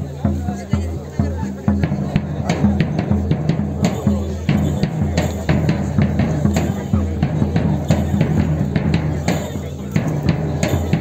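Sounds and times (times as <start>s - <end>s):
drums in quick beat: 0.0s - 11.0s.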